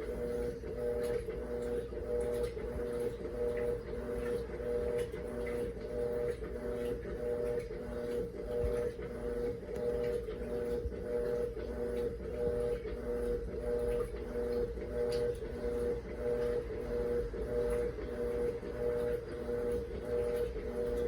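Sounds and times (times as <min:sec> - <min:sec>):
washing machine motor pulsing: 0:00.0 - 0:21.0.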